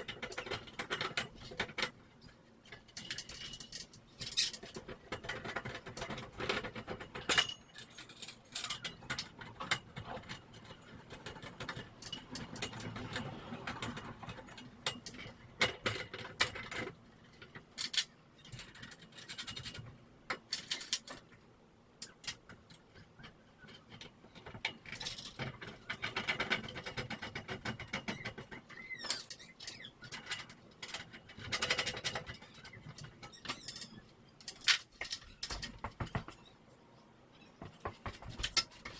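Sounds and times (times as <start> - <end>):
hand tools and hardware clicking: 0.0 - 36.7, 37.3 - 38.9.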